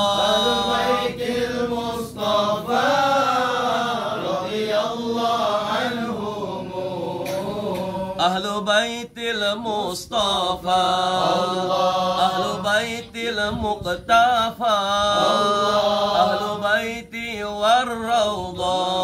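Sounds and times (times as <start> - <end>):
man chanting a devotional hymn: 0.0 - 19.0.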